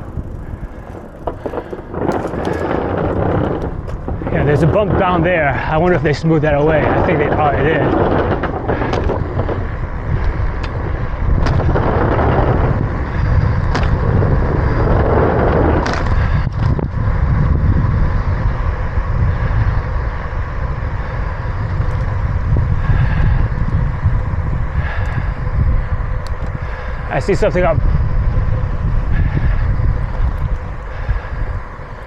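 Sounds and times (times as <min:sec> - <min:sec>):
bike clicks and knocks: 0:00.0 - 0:05.6, 0:06.5 - 0:18.6, 0:21.1 - 0:27.4, 0:28.2 - 0:32.0
bicycle tyre and trail noise: 0:00.0 - 0:32.0
wind buffeting microphone: 0:00.0 - 0:32.0.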